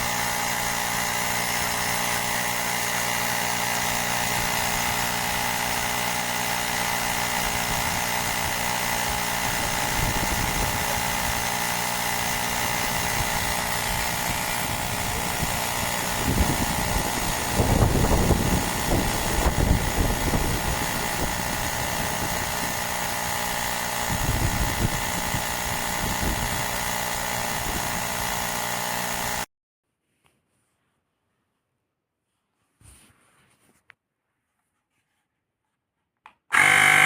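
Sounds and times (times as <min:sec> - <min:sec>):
tyre inflator compressor running: 0:00.0 - 0:29.5, 0:36.5 - 0:37.0.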